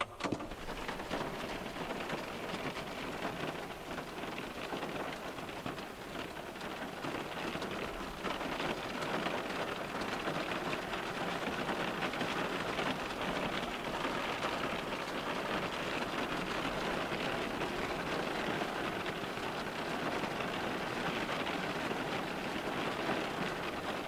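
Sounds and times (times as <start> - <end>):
rain on car glass: 0.4 - 24.0.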